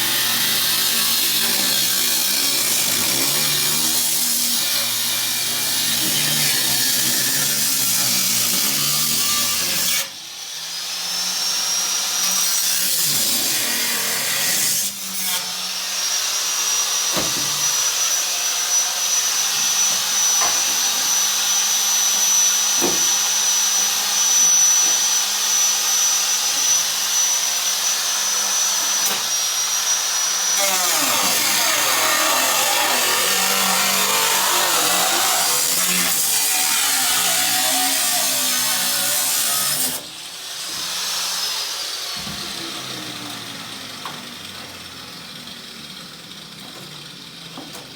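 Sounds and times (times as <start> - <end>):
power tool grinding sheet steel: 0.0 - 47.9.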